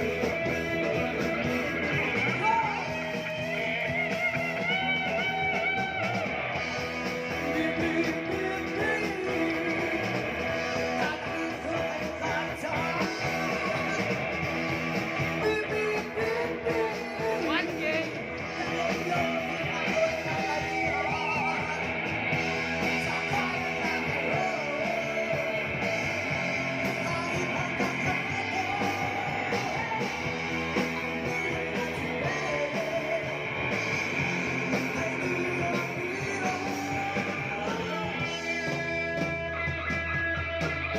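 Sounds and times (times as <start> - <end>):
bass: 0.0 - 40.9
drums: 0.0 - 40.9
rock band playing: 0.0 - 40.9
strummed guitar: 0.0 - 40.9.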